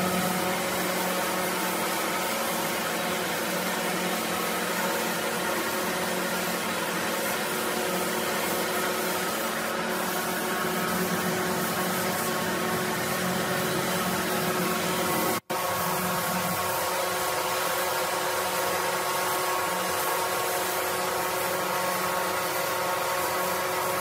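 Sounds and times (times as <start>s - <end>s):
spray gun hissing: 0.0s - 24.0s.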